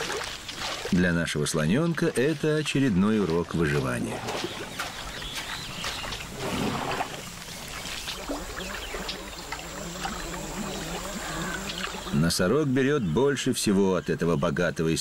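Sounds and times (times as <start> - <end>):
water sloshing and splashing: 0.0 - 12.3.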